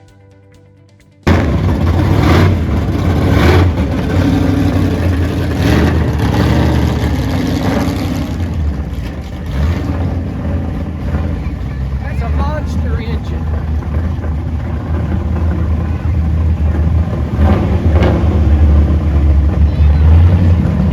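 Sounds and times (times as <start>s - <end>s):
car engine low rumble: 1.2s - 20.9s.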